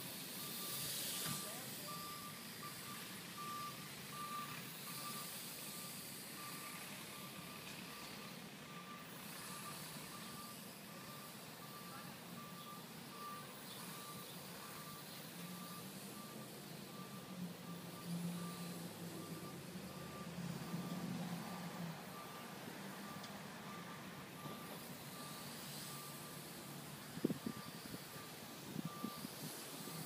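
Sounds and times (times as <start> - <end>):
outdoor background hiss: 0.0 - 30.0
short electronic beeps: 0.4 - 21.1, 22.1 - 26.4, 27.2 - 30.0.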